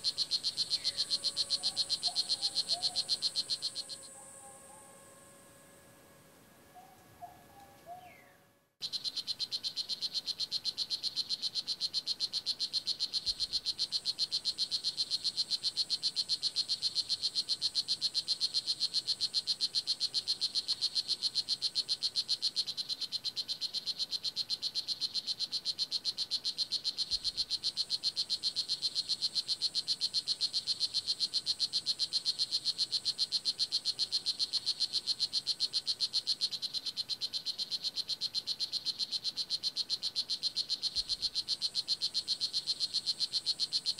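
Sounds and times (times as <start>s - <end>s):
frog chirping: 0.0s - 5.6s, 6.8s - 43.9s.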